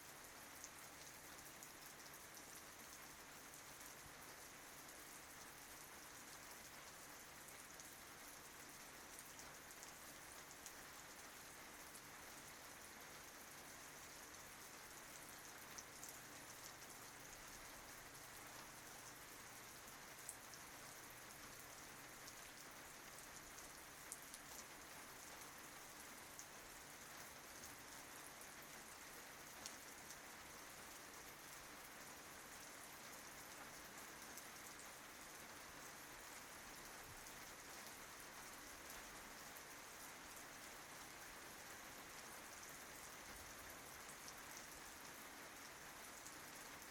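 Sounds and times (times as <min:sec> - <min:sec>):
faint steady rain: 0:00.0 - 0:46.9.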